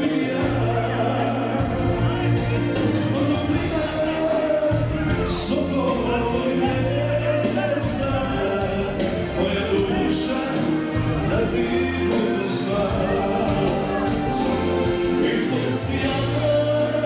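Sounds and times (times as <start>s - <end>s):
dance music with singing: 0.0s - 17.0s.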